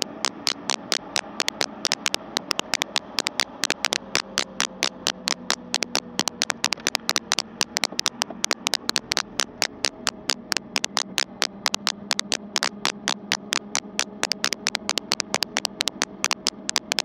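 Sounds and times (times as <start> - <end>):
motorcycle engine hum: 0.0 - 17.0
raindrops ticking on camera: 0.0 - 17.0.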